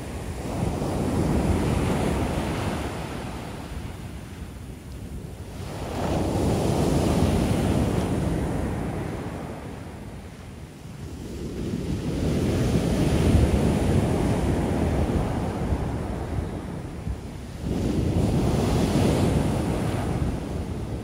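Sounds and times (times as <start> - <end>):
ocean waves crashing on beach: 0.0 - 21.0.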